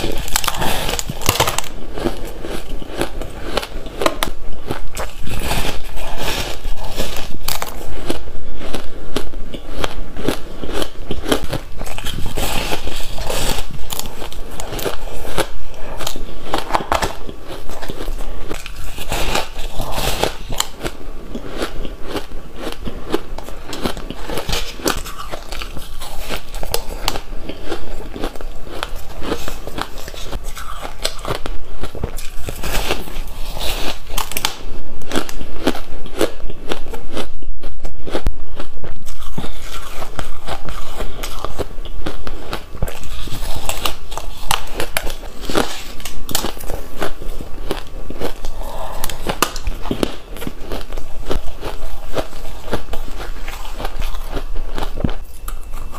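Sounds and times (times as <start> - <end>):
ice crunching being chewed: 0.0 - 55.9.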